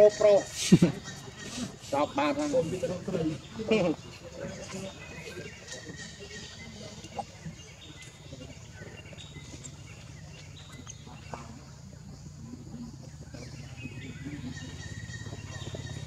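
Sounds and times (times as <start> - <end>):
high calls of forest wildlife: 0.0 - 16.0.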